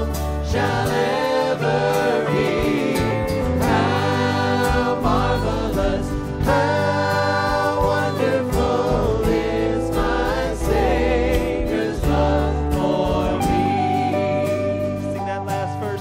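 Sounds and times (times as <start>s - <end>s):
group singing into microphones: 0.0s - 15.3s
acoustic guitar: 0.0s - 16.0s
keyboard: 0.0s - 16.0s.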